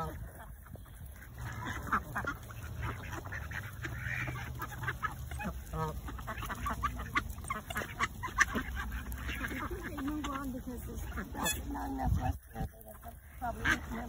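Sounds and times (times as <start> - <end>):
ducks quacking: 0.0 - 14.0
geese honking: 0.0 - 14.0.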